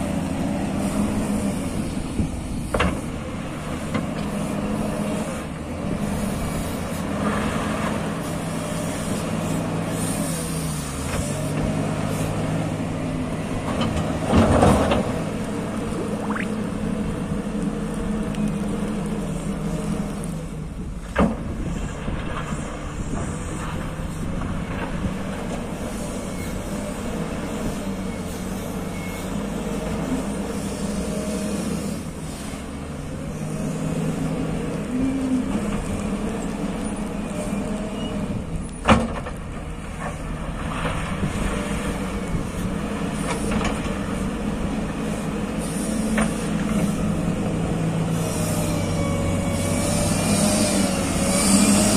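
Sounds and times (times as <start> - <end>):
diesel engine running under load: 0.0 - 51.9.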